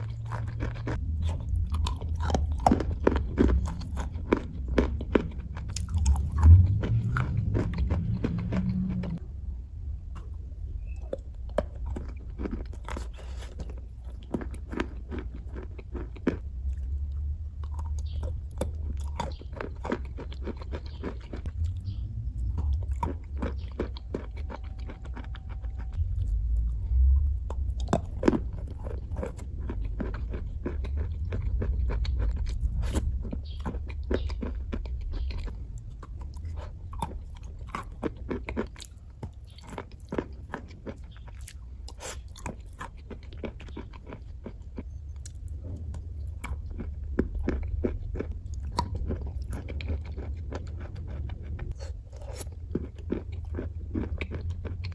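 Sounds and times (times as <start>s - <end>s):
person chewing crunchy slate pencils: 0.0s - 9.2s, 10.1s - 54.9s
low rumble: 0.0s - 14.3s, 16.1s - 39.7s, 40.3s - 51.8s.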